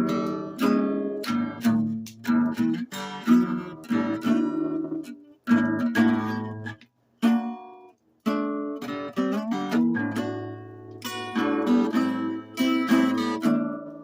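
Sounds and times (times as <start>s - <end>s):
slide acoustic guitar chords: 0.0s - 14.0s.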